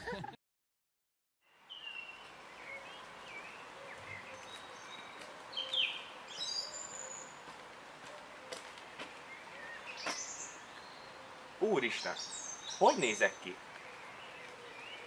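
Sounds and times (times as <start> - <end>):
birds chirping and calling: 1.6 - 15.0
faint outdoor hush: 1.6 - 15.0.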